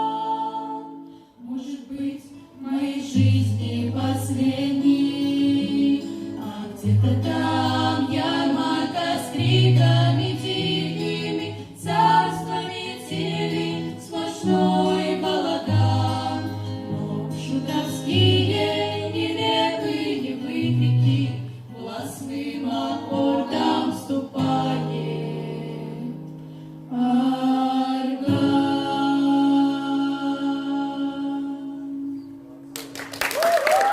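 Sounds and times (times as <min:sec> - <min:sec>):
vocal ensemble singing: 0:00.0 - 0:32.2.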